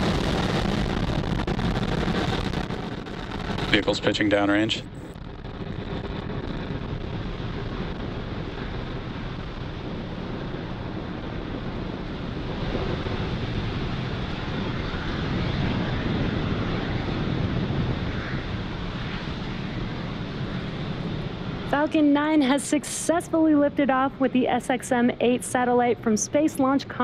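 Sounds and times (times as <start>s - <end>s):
rocket engines rumbling: 0.0s - 27.0s.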